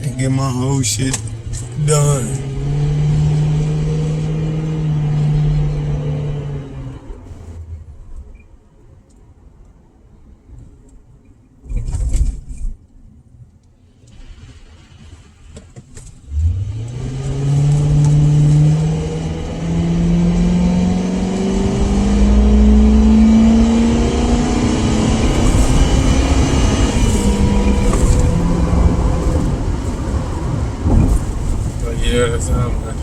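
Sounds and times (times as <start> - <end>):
car engine accelerating: 0.0 - 8.4, 14.3 - 33.0
road noise: 0.0 - 12.6, 13.8 - 33.0.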